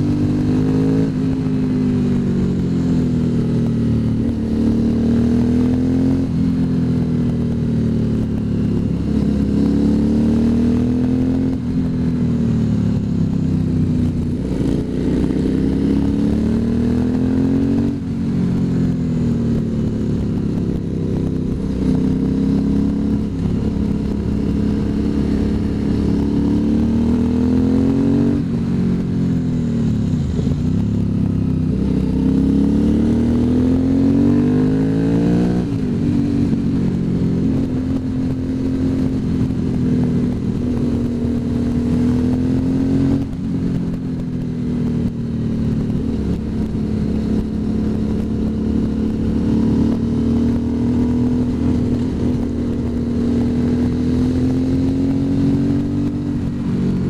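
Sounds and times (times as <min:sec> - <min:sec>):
motorcycle engine accelerating: 0:00.0 - 0:57.0
road and wind noise: 0:00.0 - 0:57.0.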